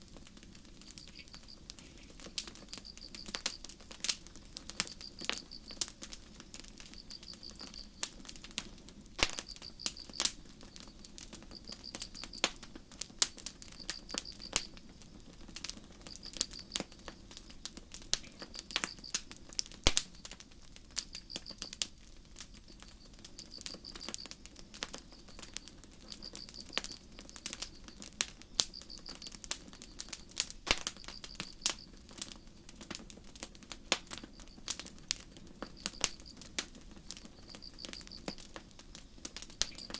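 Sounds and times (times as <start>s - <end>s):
campfire crackling and popping: 0.0s - 39.9s
crickets chirping: 0.6s - 8.3s, 9.2s - 19.2s, 21.0s - 32.6s, 34.0s - 39.9s.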